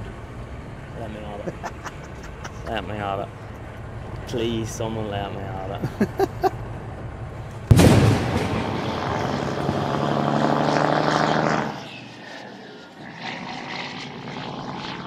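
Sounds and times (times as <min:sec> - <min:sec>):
machine engine droning: 0:00.0 - 0:15.0.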